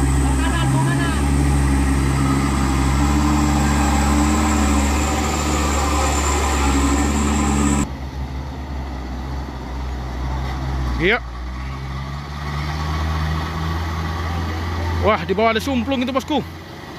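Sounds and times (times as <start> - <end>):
truck diesel engine running: 0.0 - 16.9.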